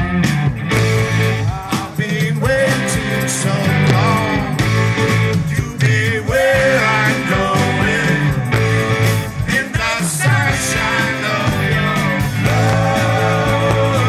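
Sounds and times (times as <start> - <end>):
blues-rock band playing: 0.0 - 14.0
lead guitar line bending: 0.0 - 14.0.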